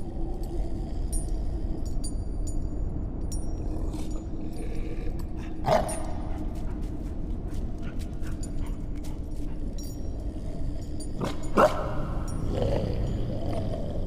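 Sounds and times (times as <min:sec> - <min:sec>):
steady low drone: 0:00.0 - 0:14.0.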